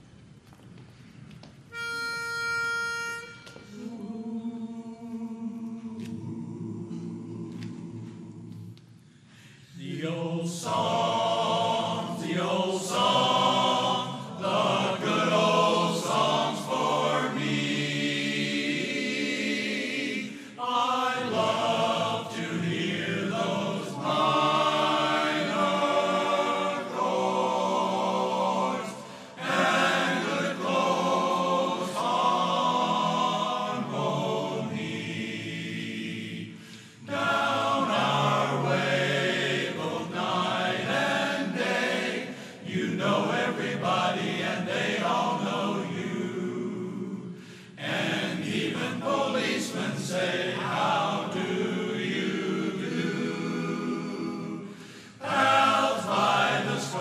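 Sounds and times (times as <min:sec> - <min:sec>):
men's chorus singing a cappella: 0:03.7 - 0:08.8, 0:09.6 - 0:57.0.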